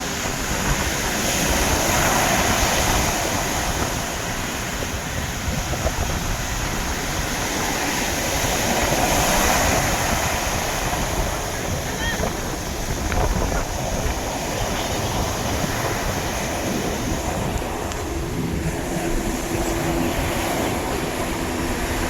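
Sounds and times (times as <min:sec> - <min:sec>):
sea waves breaking on shore: 0:00.0 - 0:22.0.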